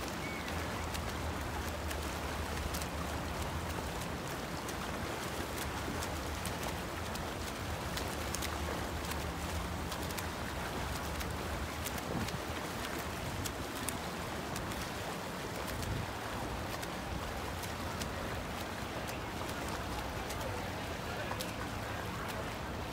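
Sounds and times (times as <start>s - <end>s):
swimmers splashing in a pool: 0.0s - 22.9s.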